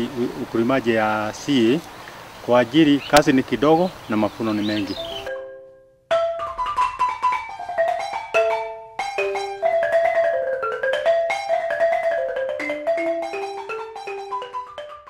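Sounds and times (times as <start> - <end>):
marimba-like melody: 0.0 - 1.7, 4.1 - 15.0.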